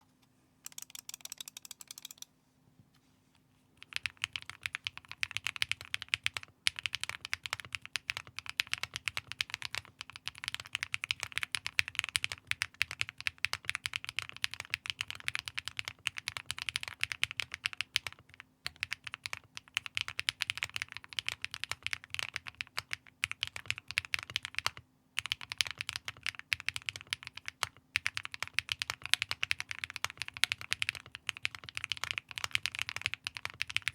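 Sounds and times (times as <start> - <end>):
mechanical keyboard typing: 0.6 - 2.2, 3.8 - 33.9.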